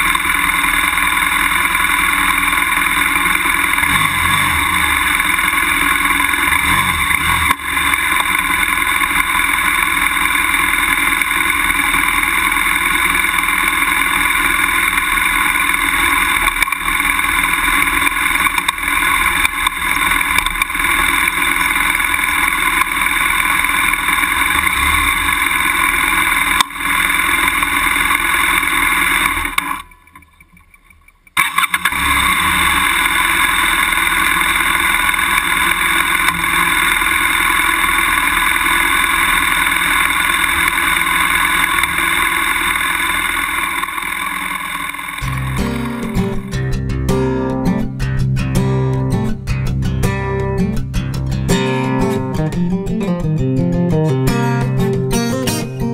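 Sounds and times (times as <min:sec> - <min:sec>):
motorcycle engine under load: 0:00.0 - 0:55.9.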